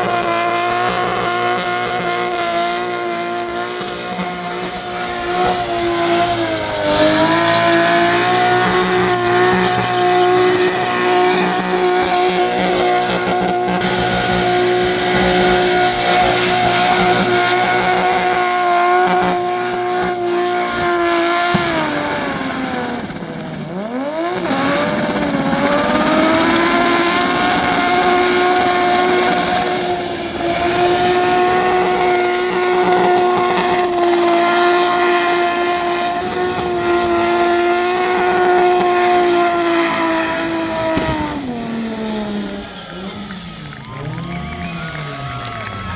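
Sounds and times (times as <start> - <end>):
car engine at high revs: 0.0 - 45.9
tyres spinning and squealing: 0.0 - 45.9.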